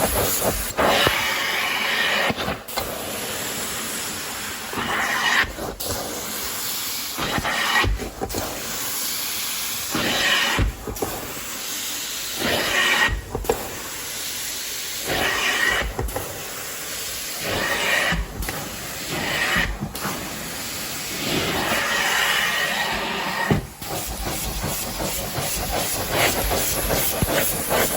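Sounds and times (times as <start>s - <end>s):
carpet cleaning wand suction hiss: 0.0s - 27.9s.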